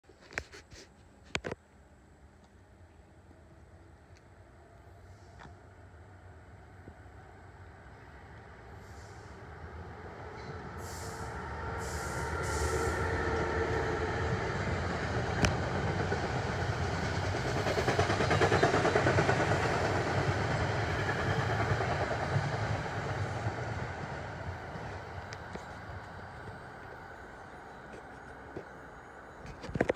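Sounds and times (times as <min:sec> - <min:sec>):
train rumble passing: 0:02.6 - 0:29.4.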